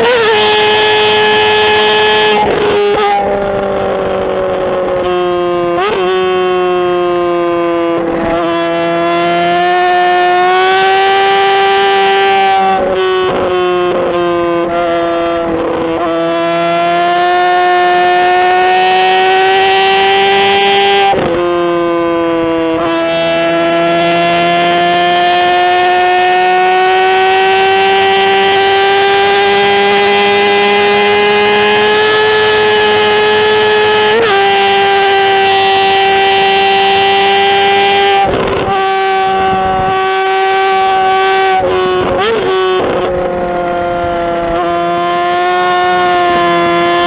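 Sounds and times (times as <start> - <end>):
motorcycle engine at high revs: 0.0 - 47.0.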